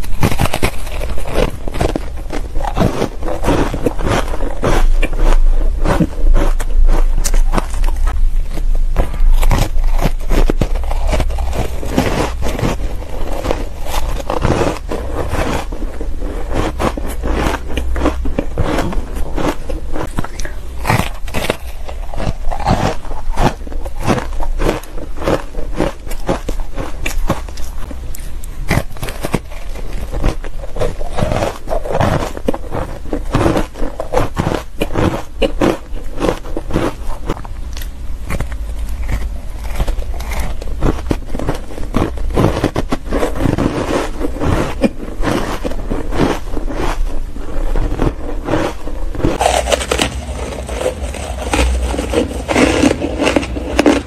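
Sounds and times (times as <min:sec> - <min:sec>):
crunching and chewing shaved ice: 0:00.0 - 0:54.0.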